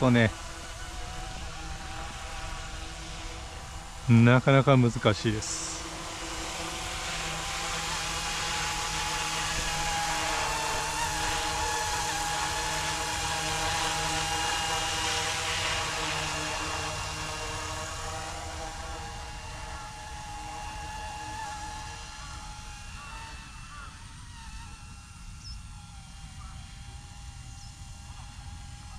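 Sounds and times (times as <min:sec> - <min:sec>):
rc helicopter motor whine: 0:00.0 - 0:28.9.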